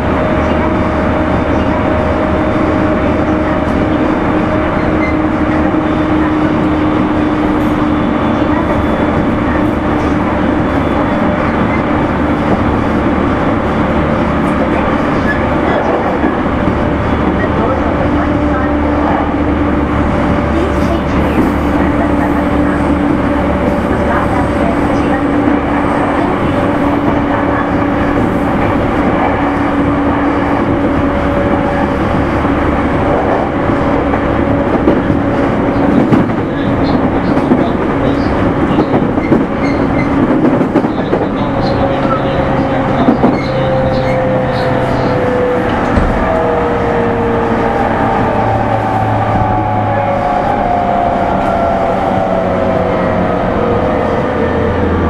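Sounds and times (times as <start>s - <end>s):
train wheel and rail noise: 0.0s - 55.0s.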